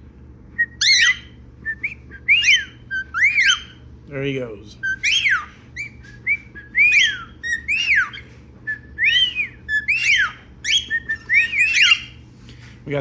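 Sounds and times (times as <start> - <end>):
cockatiel whistling: 0.6 - 3.8, 4.8 - 12.2.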